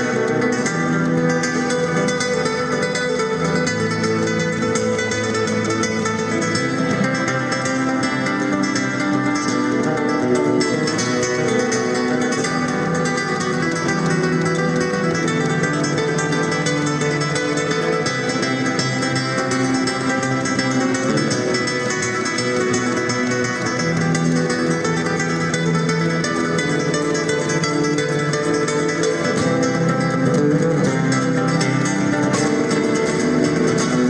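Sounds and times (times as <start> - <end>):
fingerpicked acoustic guitar: 0.0 - 34.0.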